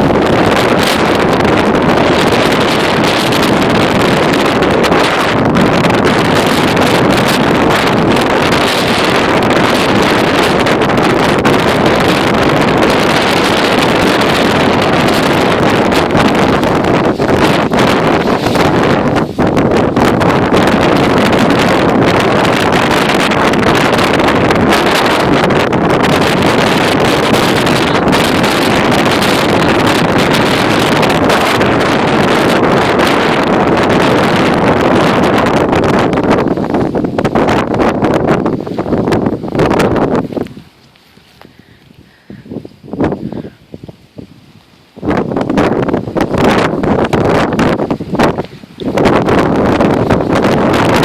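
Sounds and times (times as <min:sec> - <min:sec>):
wind on microphone: 0:00.0 - 0:51.0.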